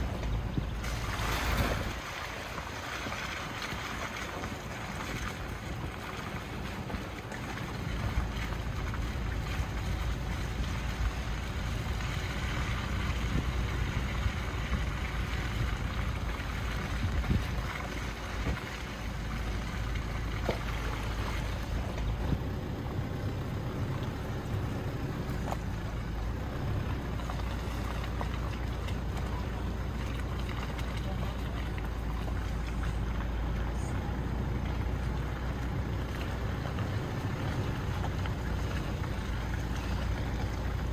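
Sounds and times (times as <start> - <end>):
car tyre and wind noise: 0.0 - 40.9.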